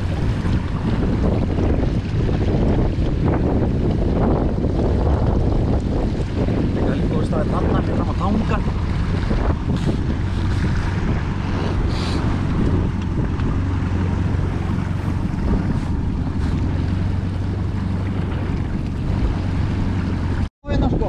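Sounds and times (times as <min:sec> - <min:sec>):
outboard motor hum: 0:00.0 - 0:21.0
waves splashing against hull: 0:00.0 - 0:21.0
wind buffeting microphone: 0:00.0 - 0:21.0.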